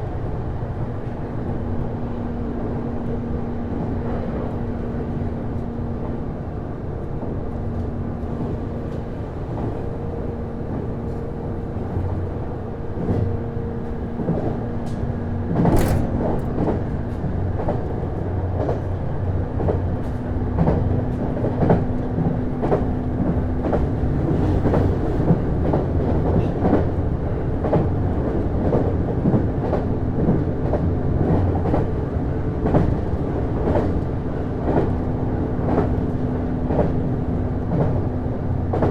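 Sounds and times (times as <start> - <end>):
railcar drive hum: 0.0 - 38.9.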